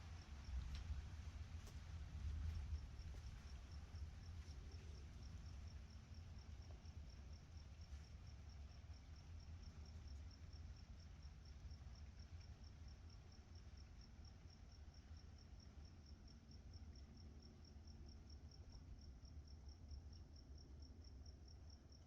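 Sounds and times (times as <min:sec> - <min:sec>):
faint low rumble: 0:00.0 - 0:22.0
cricket chirping: 0:01.6 - 0:22.0.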